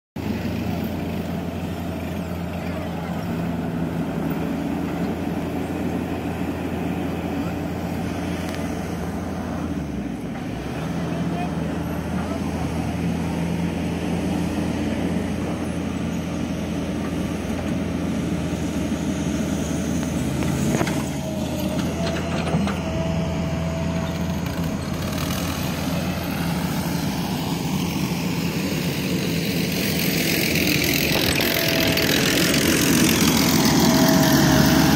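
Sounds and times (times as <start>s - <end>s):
engine running steadily: 0.2s - 34.9s.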